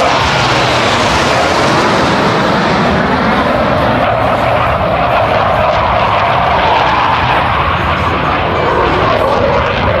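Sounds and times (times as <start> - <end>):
jet fighters roaring past: 0.0 - 10.0.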